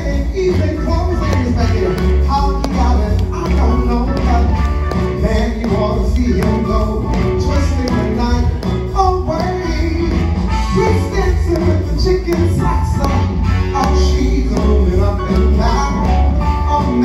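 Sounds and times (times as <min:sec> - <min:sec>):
live band with heavy bass: 0:00.0 - 0:17.0
man singing into microphone: 0:00.0 - 0:17.0.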